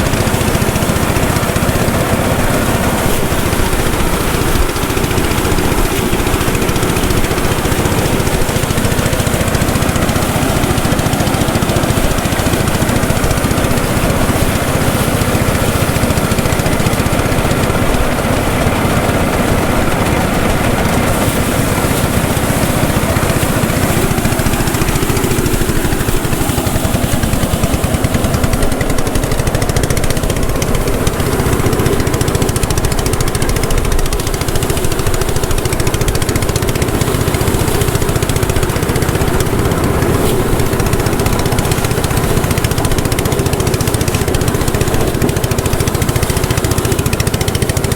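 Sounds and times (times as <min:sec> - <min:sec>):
threshing machine running: 0:00.0 - 0:47.9.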